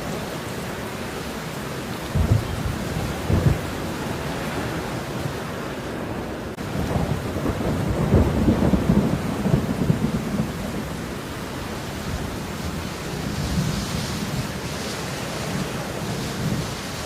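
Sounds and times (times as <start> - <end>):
steady rainfall: 0.0 - 17.0
thunder rumbling: 1.9 - 17.0.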